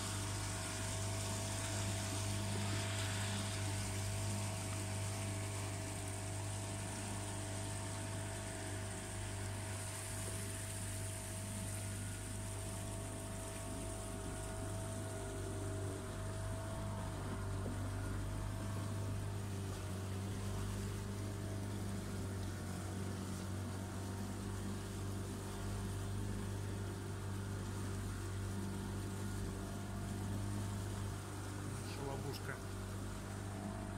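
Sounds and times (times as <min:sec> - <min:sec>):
motorboat engine hum: 0:00.0 - 0:33.9
rushing water: 0:00.0 - 0:33.9.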